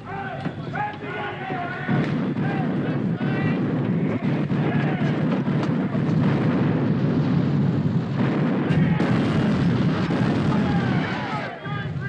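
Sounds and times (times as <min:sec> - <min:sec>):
cannon fire: 0:01.2 - 0:12.0.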